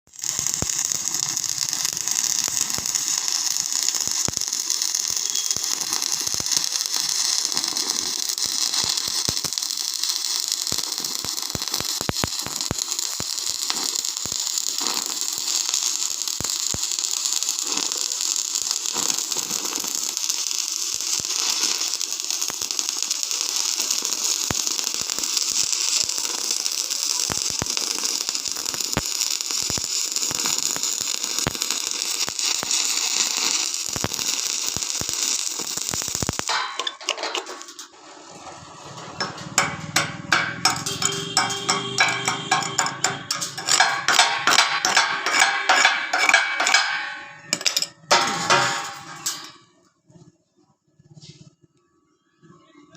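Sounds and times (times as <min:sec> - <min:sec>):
welding arc hissing and crackling: 0:00.0 - 0:38.0, 0:38.6 - 0:49.6.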